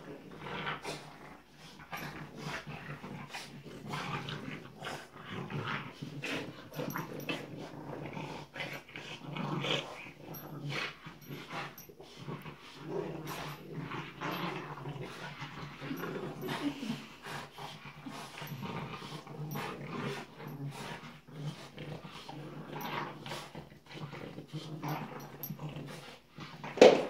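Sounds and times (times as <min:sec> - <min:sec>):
puppies growling in play: 0:00.0 - 0:27.0.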